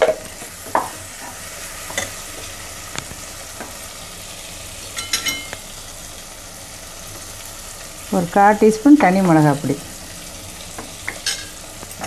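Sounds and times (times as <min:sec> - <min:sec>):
masala sizzling in ghee: 0:00.0 - 0:12.0.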